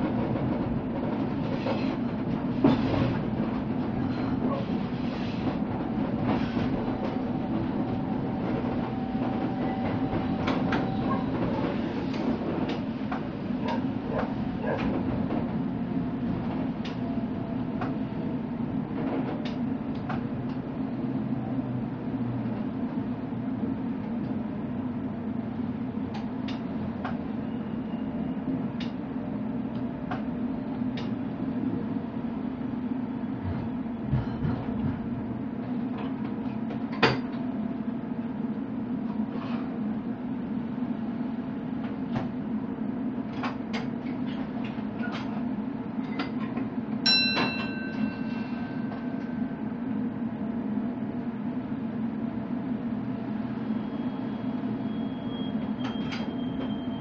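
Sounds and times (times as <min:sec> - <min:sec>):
electric train rumble: 0:00.0 - 0:57.0.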